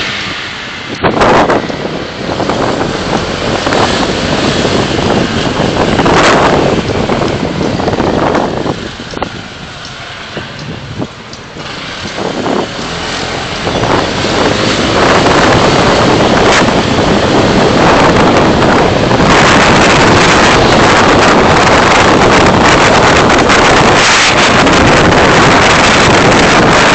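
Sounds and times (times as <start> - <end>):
road and wind noise: 0.0 - 26.9.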